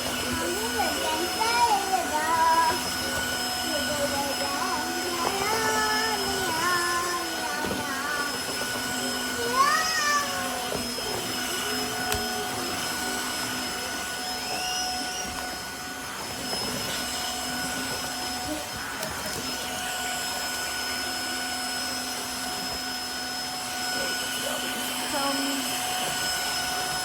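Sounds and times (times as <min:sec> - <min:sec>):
floor cleaner motor whine: 0:00.0 - 0:27.0.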